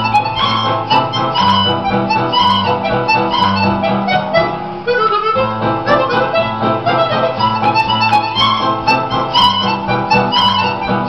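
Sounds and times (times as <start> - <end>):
harmonica melody: 0.0 - 11.0
musical accompaniment with bass: 0.0 - 11.0.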